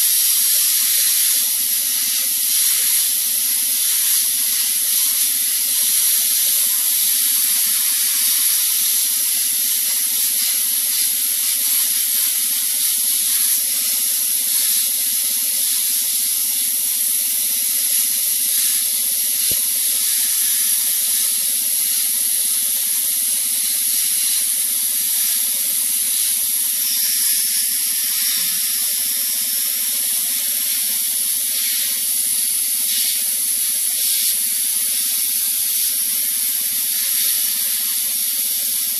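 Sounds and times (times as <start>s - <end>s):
sandblasting hiss: 0.0s - 38.9s.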